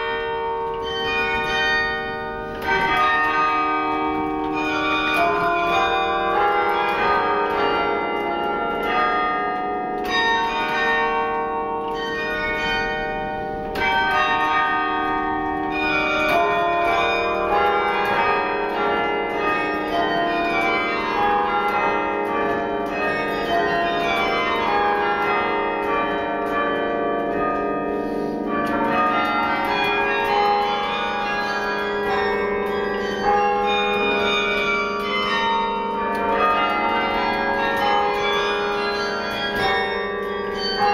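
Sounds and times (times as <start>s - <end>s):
carillon bell music: 0.0s - 40.9s.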